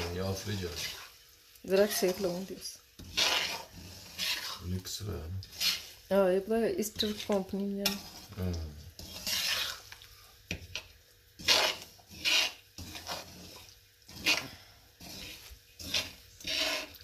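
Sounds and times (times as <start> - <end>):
metal spatula scraping a steel pan: 0.0 - 4.7, 5.4 - 6.1, 6.8 - 8.3, 8.9 - 17.0.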